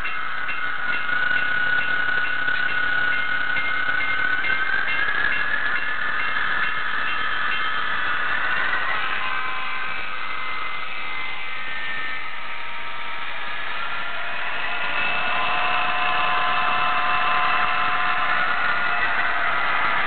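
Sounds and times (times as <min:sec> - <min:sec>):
model train diesel engine sound: 0:00.0 - 0:20.0
rising whine: 0:00.0 - 0:20.0.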